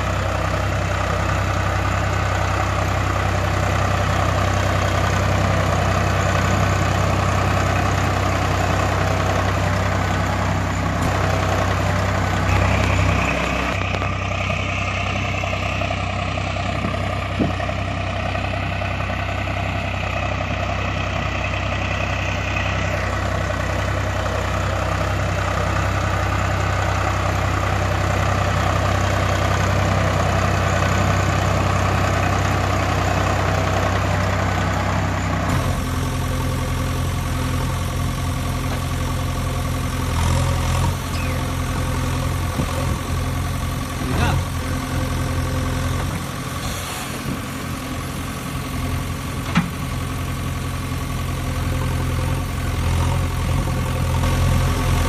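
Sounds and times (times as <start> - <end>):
different engine sound: 0.0 - 55.0
engine idling: 0.0 - 55.0.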